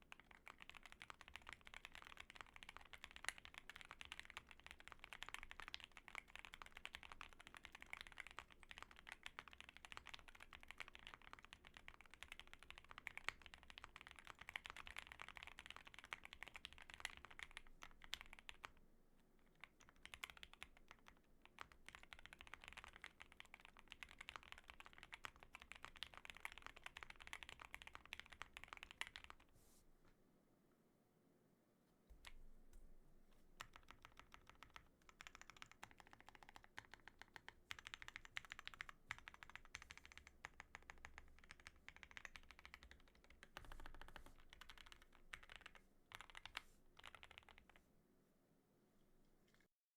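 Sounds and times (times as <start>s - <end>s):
typing on mechanical keyboard: 0.0s - 18.8s, 19.5s - 29.5s, 33.6s - 47.8s.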